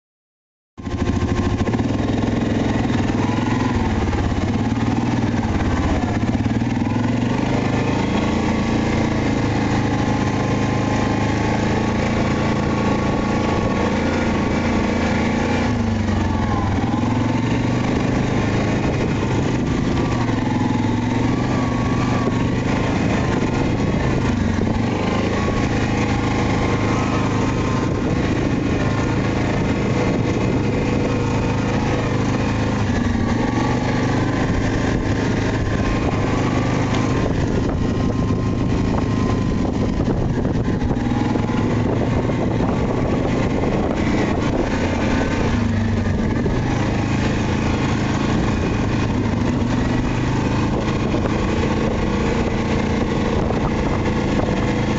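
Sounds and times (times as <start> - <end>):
atv engine running: 0.8 - 54.9.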